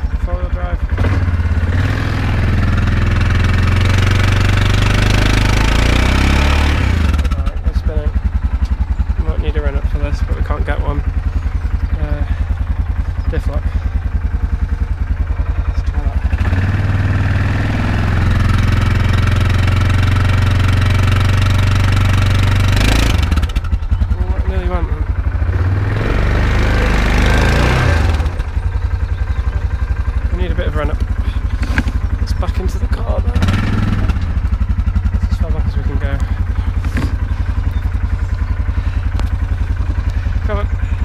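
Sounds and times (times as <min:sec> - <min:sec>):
quad bike engine revving: 0:00.0 - 0:41.0.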